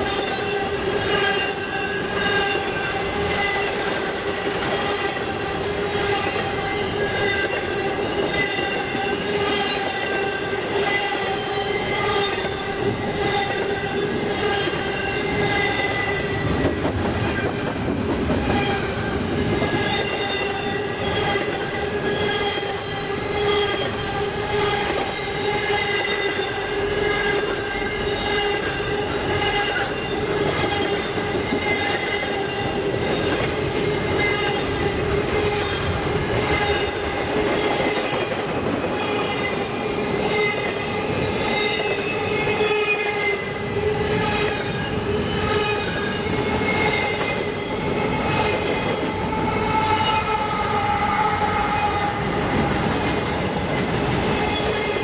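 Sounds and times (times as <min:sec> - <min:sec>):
train wheels rumbling and clicking: 0:00.0 - 0:55.0.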